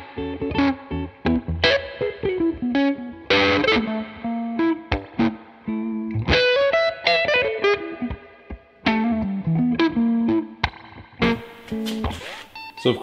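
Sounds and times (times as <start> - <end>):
electric guitar music: 0.0 - 13.0.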